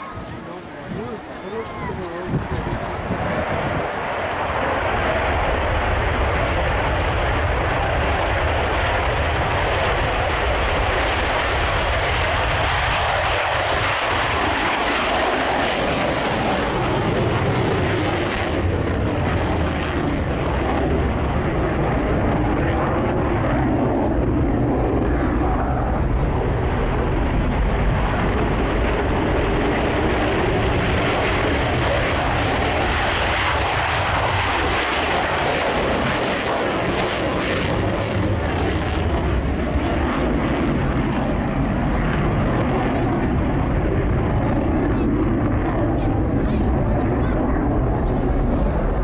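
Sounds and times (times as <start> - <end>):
jet engine roar: 0.0 - 49.0.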